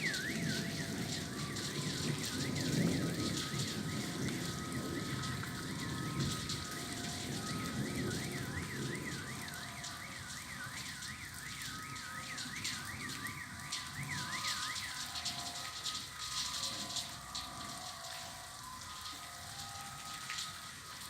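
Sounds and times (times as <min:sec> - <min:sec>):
faint steady tones: 0:00.0 - 0:21.0
high warbling alarm tone: 0:00.0 - 0:21.0.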